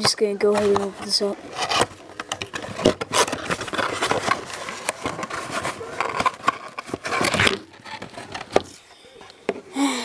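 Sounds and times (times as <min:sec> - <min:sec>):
handling rustling and clicks: 0:00.0 - 0:09.6.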